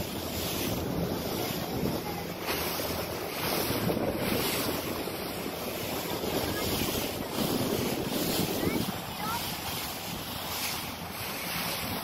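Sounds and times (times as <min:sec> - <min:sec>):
sea water washing around a boat: 0:00.0 - 0:12.0
wind buffeting the microphone: 0:00.0 - 0:12.0.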